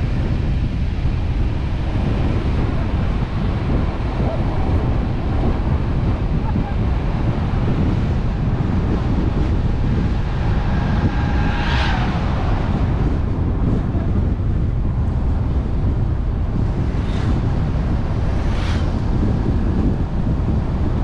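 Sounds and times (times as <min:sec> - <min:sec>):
low road rumble: 0:00.0 - 0:21.0
wind buffeting microphone: 0:00.0 - 0:21.0.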